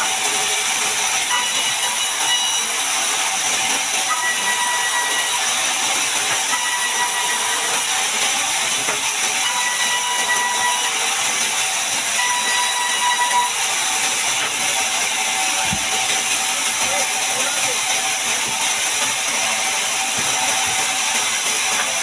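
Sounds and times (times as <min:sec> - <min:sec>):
bandsaw cutting log: 0:00.0 - 0:22.0.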